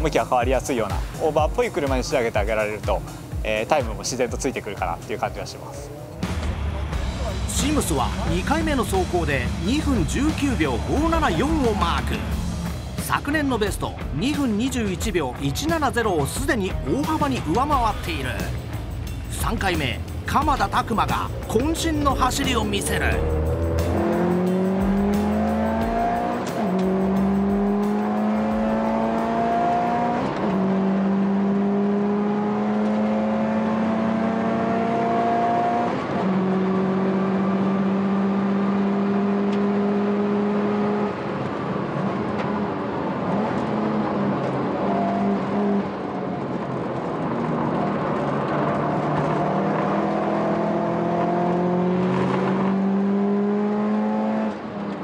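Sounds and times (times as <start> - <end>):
turbocharged car engine accelerating: 5.5 - 55.0.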